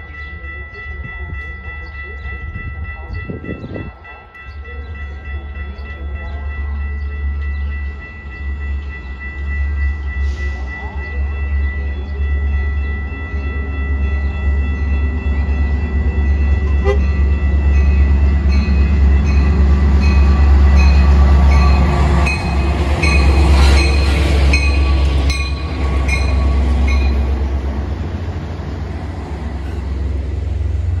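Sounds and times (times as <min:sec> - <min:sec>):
bell ringing: 0:00.0 - 0:27.4
diesel locomotive engine rumble: 0:00.0 - 0:31.0.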